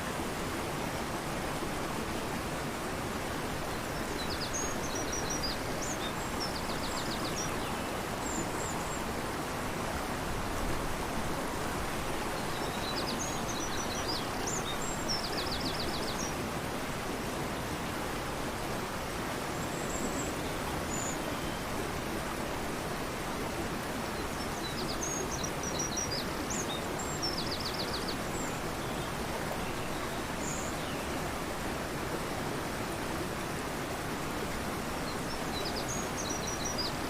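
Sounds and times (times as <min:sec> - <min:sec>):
river rushing: 0:00.0 - 0:37.0.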